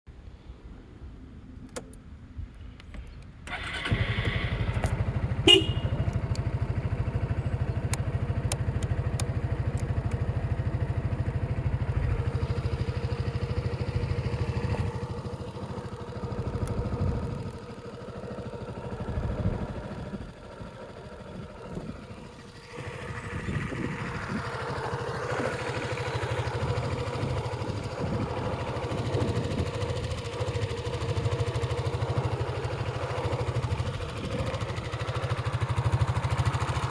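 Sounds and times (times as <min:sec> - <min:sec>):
scooter engine starting and running: 0:03.4 - 0:36.9.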